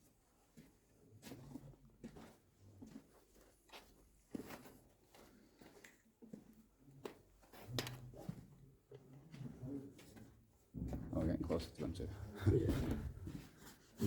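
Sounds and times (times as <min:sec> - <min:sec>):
footsteps and scuffs in tunnel: 0:00.0 - 0:14.0.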